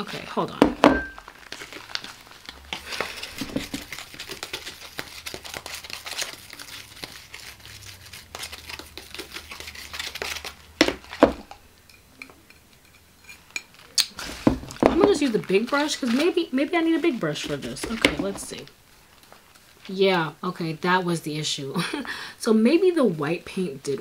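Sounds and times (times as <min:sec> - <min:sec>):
rubber gloves crinkling: 0:00.0 - 0:11.7, 0:13.3 - 0:20.9.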